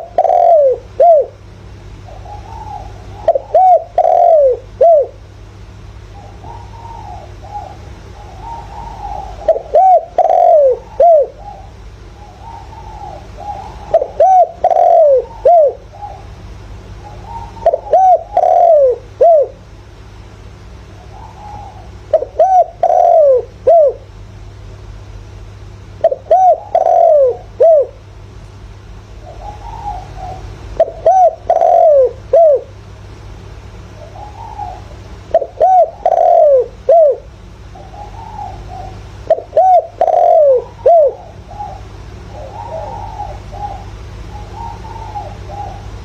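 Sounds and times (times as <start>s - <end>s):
dove cooing: 0.0s - 19.7s, 20.9s - 24.2s, 26.0s - 28.1s, 29.1s - 32.8s, 33.8s - 46.0s.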